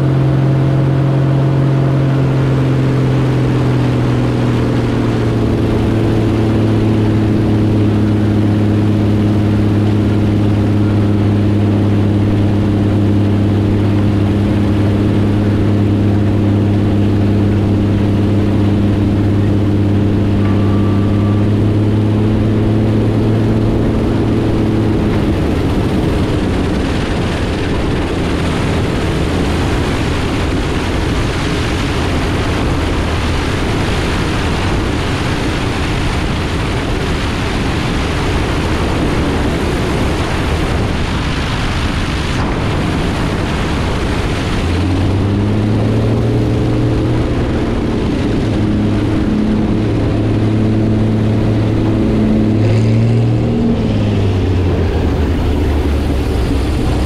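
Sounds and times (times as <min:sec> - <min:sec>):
aircraft engine and propeller droning: 0:00.0 - 0:57.0
wind rush over microphone: 0:00.0 - 0:57.0.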